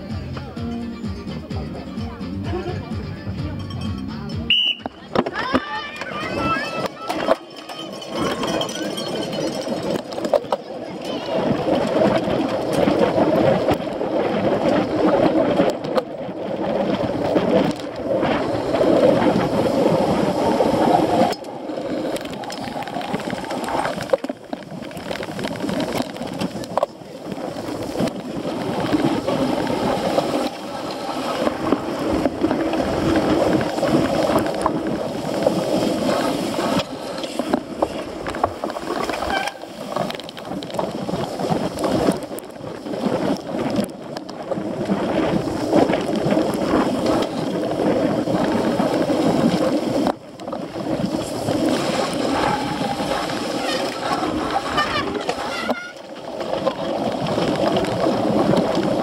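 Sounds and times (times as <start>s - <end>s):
bike tyres rumbling and frame rattling: 0.0s - 59.0s
wind buffeting microphone: 4.5s - 59.0s.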